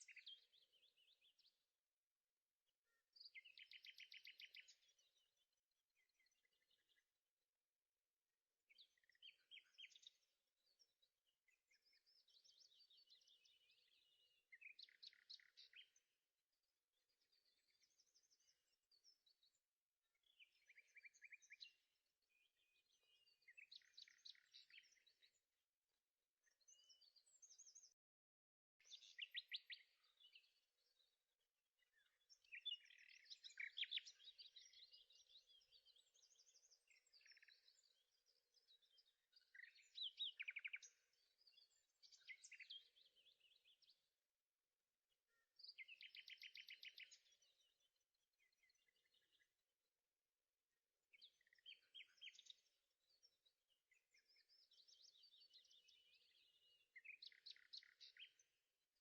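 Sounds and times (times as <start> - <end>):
faint birdsong warbling: 0.0 - 1.9, 2.8 - 7.6, 8.6 - 49.7, 51.1 - 59.0.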